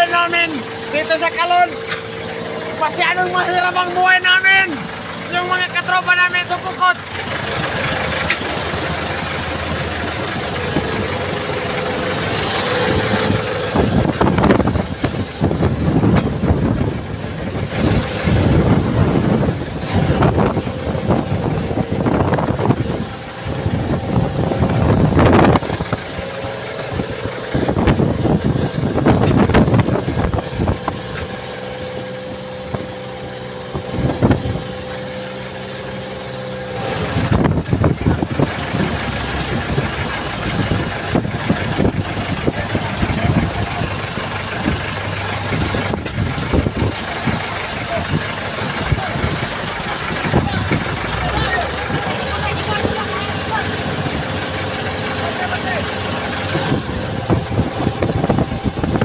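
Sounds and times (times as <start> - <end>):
boat engine running: 0.0 - 59.0
waves splashing against hull: 0.0 - 59.0
strong wind: 7.2 - 31.5, 32.3 - 35.0, 36.7 - 54.8, 55.9 - 59.0.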